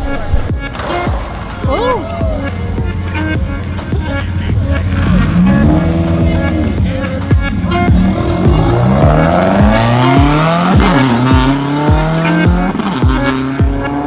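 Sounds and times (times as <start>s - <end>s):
music with deep bass hits: 0.4s - 14.0s
car engine revving: 0.7s - 14.0s.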